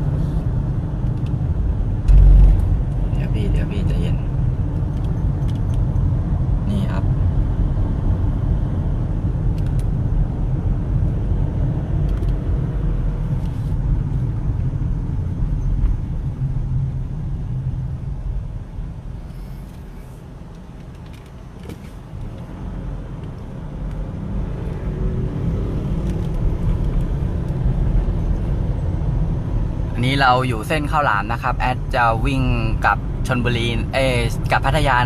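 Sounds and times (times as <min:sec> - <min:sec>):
car cabin engine and road rumble: 0:00.0 - 0:35.0.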